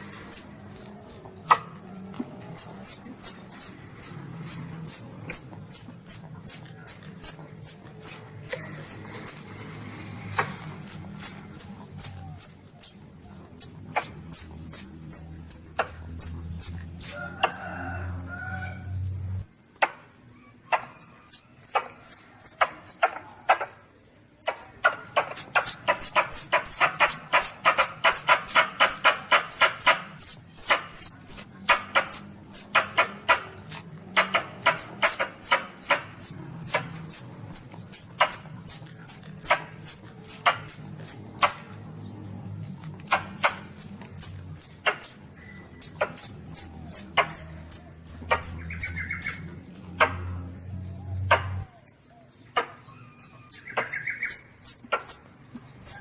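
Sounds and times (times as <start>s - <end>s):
civet squeaking: 0.0s - 17.2s, 20.6s - 41.8s, 42.9s - 49.6s, 53.0s - 56.0s.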